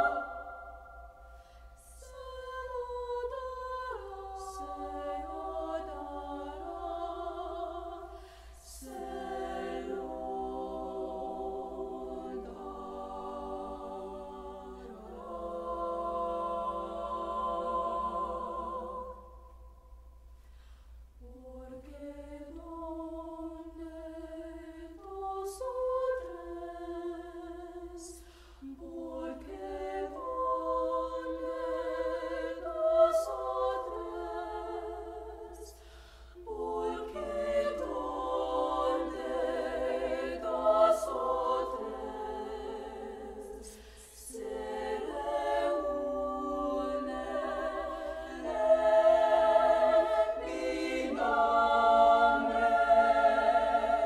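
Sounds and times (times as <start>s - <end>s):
girls' choir singing a cappella: 0.0s - 19.6s, 21.2s - 54.0s.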